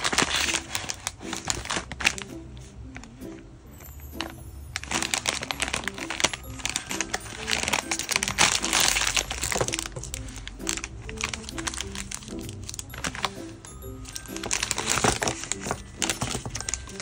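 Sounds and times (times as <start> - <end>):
plastic pouch crinkling: 0.0 - 3.2, 3.8 - 17.0
background music: 0.0 - 17.0.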